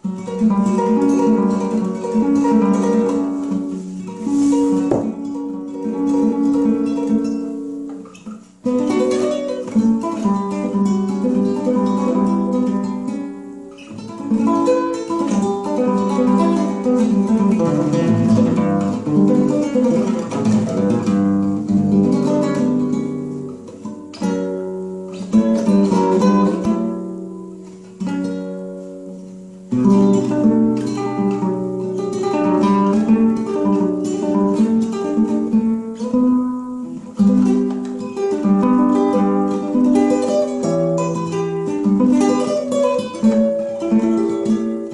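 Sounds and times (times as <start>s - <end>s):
classical guitar fingerpicking: 0.0s - 44.9s.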